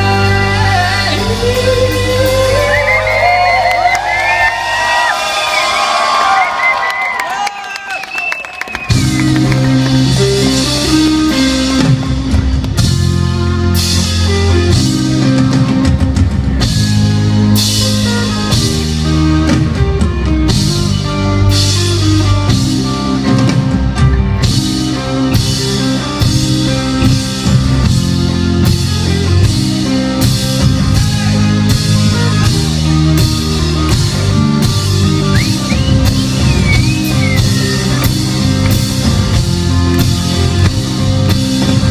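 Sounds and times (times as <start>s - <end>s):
electric guitar: 0.0s - 5.6s, 8.2s - 41.9s
drum kit: 0.0s - 7.5s, 8.2s - 41.9s
bass: 0.0s - 41.9s.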